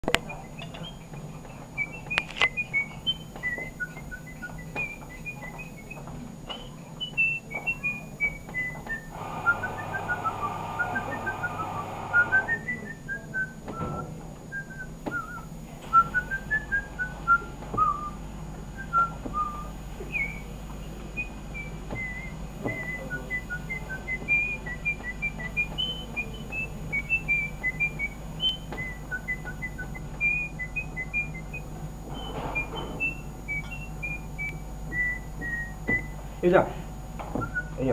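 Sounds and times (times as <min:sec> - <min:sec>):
person whistling a melody: 0:01.8 - 0:18.2, 0:18.8 - 0:20.5, 0:21.2 - 0:36.2, 0:37.4 - 0:37.8.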